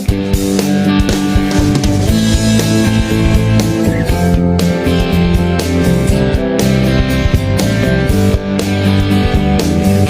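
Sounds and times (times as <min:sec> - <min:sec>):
instrumental rock music: 0:00.0 - 0:10.0.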